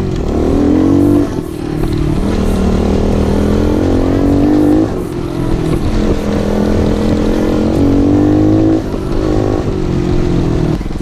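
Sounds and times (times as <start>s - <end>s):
small motorcycle engine revving: 0.0s - 11.0s.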